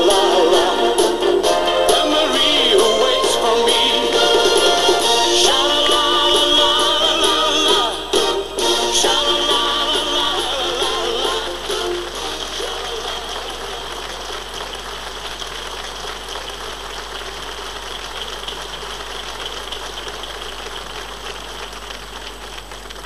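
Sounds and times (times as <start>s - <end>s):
crowd clapping: 0.0s - 23.0s.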